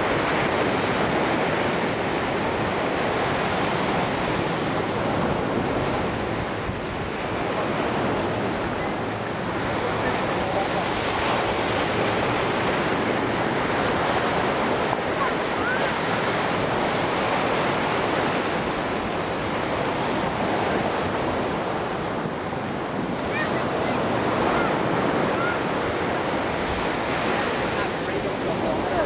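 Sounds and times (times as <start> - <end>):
ocean surf breaking on beach: 0.0 - 29.0
wind on microphone: 0.0 - 29.0.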